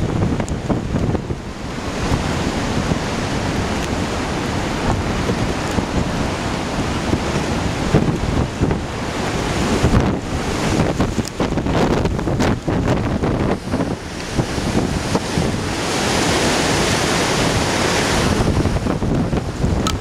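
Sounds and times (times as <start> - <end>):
surf breaking heavily: 0.0 - 20.0
wind buffeting microphone: 0.0 - 20.0.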